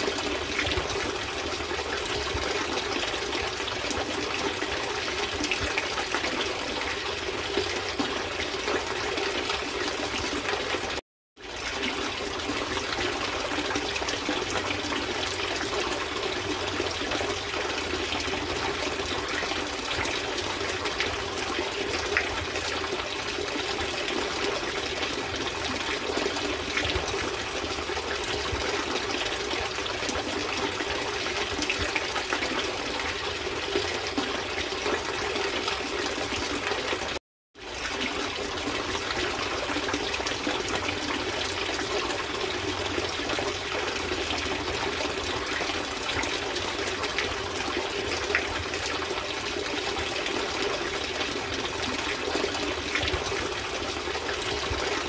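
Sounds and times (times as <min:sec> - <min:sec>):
water splashing into a pond: 0:00.0 - 0:55.0.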